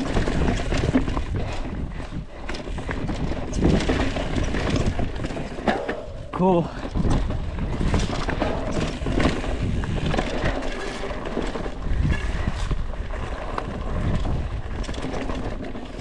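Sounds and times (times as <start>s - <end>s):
bike rattling over stones: 0.0s - 16.0s
wind on microphone: 0.0s - 16.0s.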